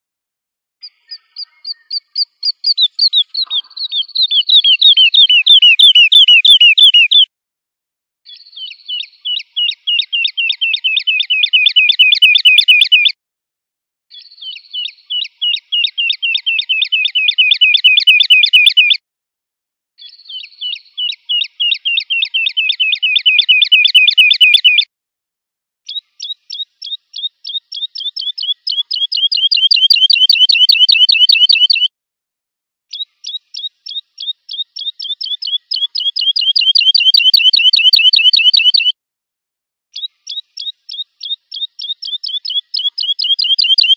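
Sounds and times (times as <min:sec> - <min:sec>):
lark singing trills: 0:00.8 - 0:07.3, 0:08.3 - 0:13.2, 0:14.1 - 0:19.0, 0:20.0 - 0:24.9, 0:25.9 - 0:31.9, 0:32.9 - 0:39.0, 0:39.9 - 0:43.9.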